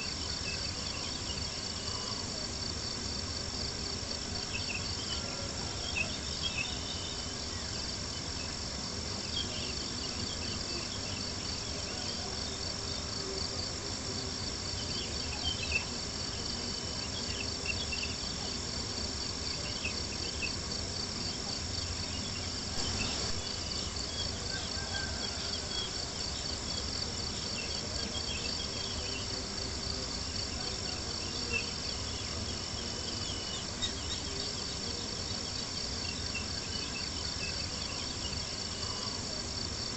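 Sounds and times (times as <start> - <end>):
crickets chirping: 0.0 - 39.9
soft low hiss: 0.0 - 39.9.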